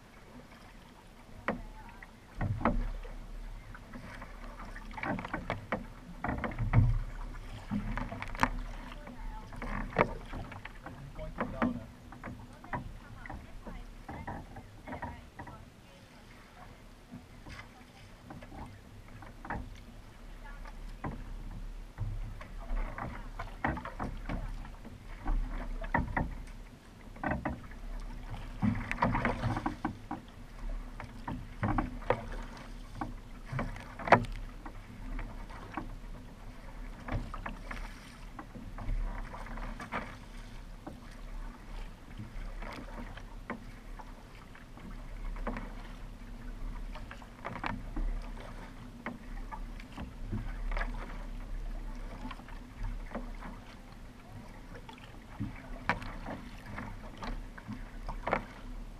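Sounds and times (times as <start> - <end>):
paddle splashing in water: 0.0 - 58.9.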